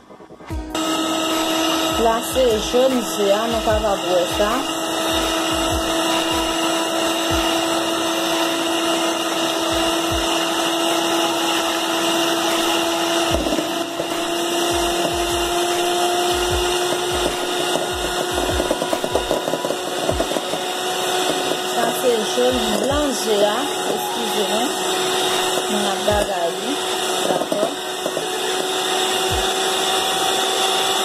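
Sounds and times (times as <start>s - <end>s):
electric hand mixer whine: 0.0s - 31.0s.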